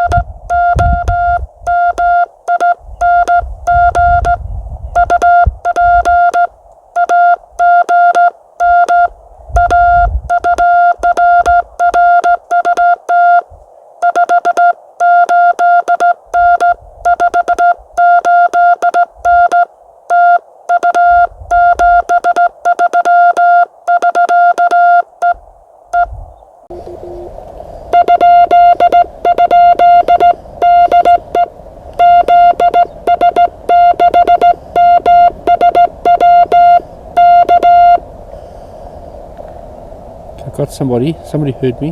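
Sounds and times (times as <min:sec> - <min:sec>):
morse code beeps: 0:00.0 - 0:25.4, 0:27.9 - 0:38.0
receiver hiss: 0:00.0 - 0:41.9.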